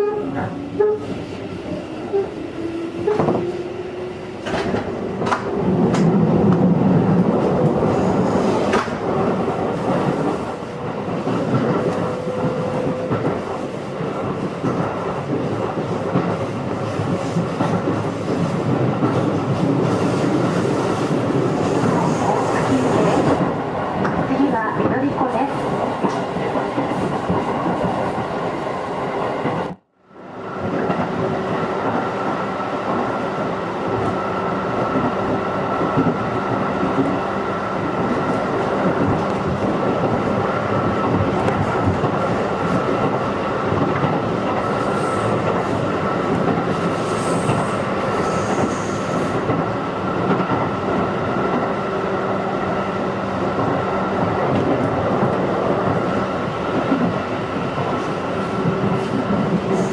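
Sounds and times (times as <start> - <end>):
train wheel and rail noise: 0.0 - 59.9.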